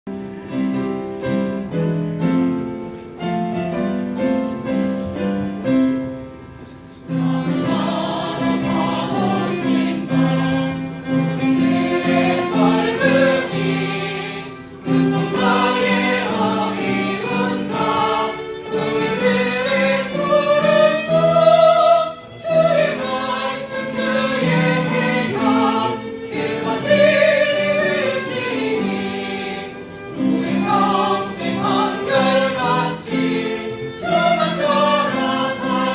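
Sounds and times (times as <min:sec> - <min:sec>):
instrumental accompaniment: 0:00.1 - 0:35.9
choir singing with vibrato: 0:07.0 - 0:35.9.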